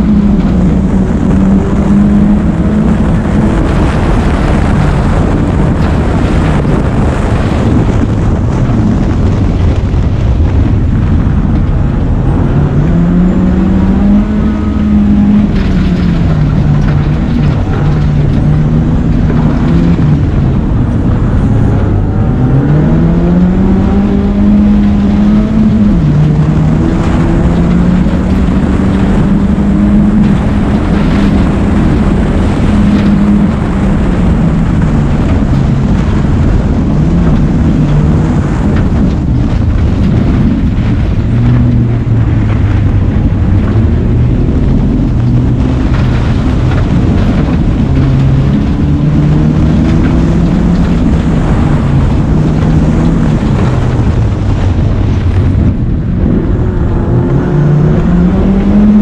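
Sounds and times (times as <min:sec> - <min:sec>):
race car engine revving: 0:00.0 - 0:59.0
tyres on dirt track: 0:00.0 - 0:59.0.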